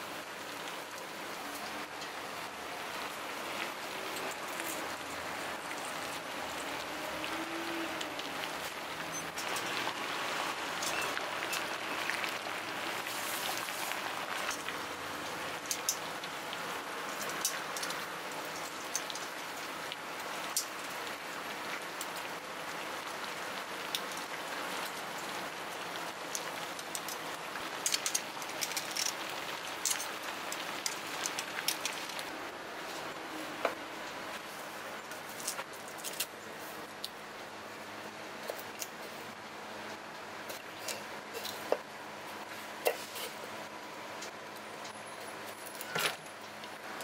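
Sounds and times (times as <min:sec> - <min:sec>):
water boiling in a pot: 0:00.0 - 0:47.0.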